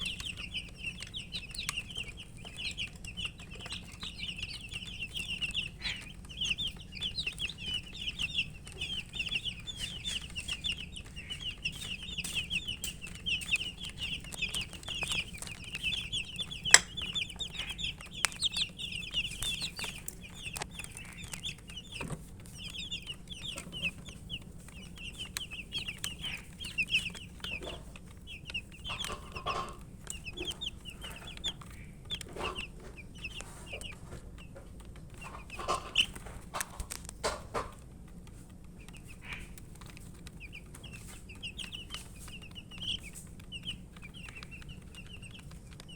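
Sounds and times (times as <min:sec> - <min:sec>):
sharp clicks: 0:00.0 - 0:29.4, 0:30.0 - 0:45.9
baby chickens peeping: 0:00.0 - 0:45.9.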